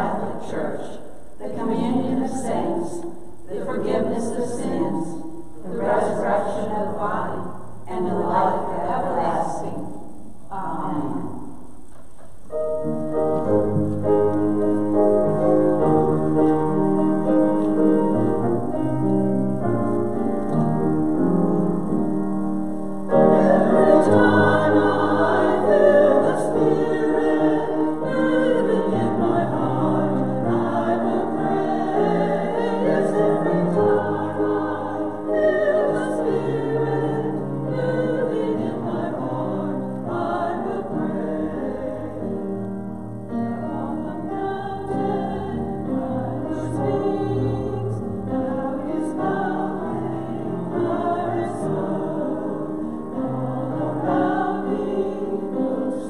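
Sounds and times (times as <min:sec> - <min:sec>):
choir singing: 0:00.0 - 0:11.5, 0:12.8 - 0:22.1, 0:23.0 - 0:56.0.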